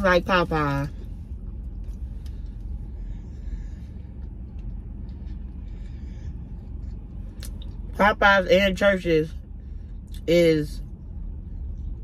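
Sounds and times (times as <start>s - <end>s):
low rumble in car cabin: 0.0s - 12.0s.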